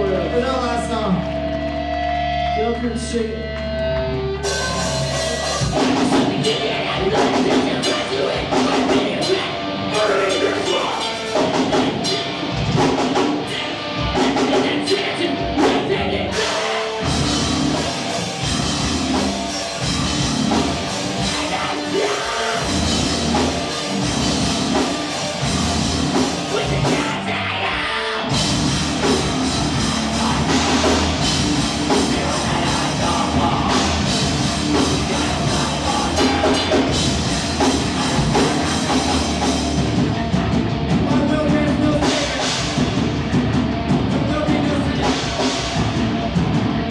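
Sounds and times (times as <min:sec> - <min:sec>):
distorted guitars: 0:00.0 - 0:46.9
heavy rock band playing live: 0:00.0 - 0:46.9
vocals: 0:00.0 - 0:46.9
drum kit: 0:04.4 - 0:27.4, 0:28.2 - 0:46.9.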